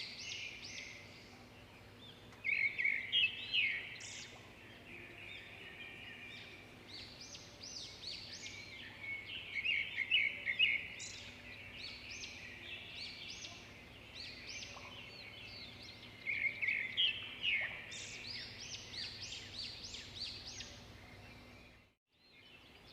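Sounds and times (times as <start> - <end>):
birds chirping and twittering: 0.0 - 22.9.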